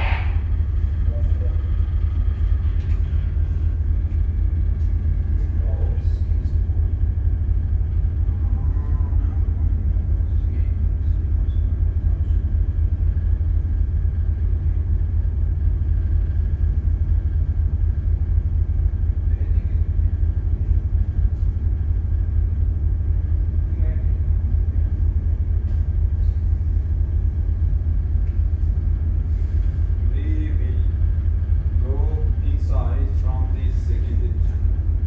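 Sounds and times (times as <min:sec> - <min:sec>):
faint hum of tones: 0:00.0 - 0:35.0
ship engines rumbling: 0:00.0 - 0:35.0.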